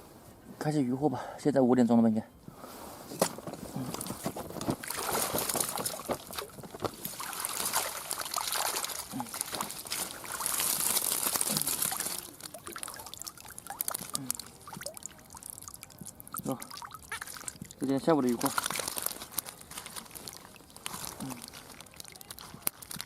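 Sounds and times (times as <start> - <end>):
water sloshing and splashing: 3.8 - 23.0.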